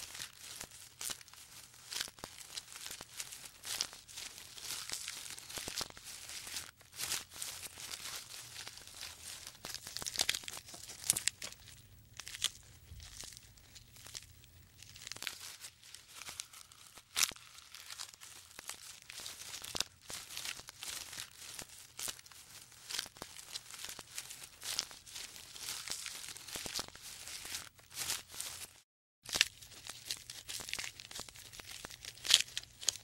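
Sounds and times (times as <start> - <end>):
leaves rustling and tearing: 0.0 - 33.0
twigs snapping: 0.2 - 28.6, 29.3 - 33.0.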